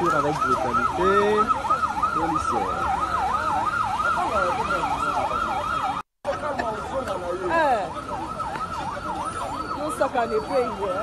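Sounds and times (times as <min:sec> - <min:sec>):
electronic siren yelping: 0:00.0 - 0:06.0, 0:07.5 - 0:11.0.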